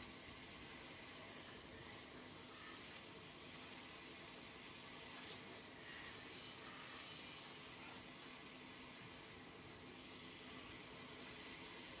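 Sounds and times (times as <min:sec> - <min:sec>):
steady high-pitched hiss: 0:00.0 - 0:12.0.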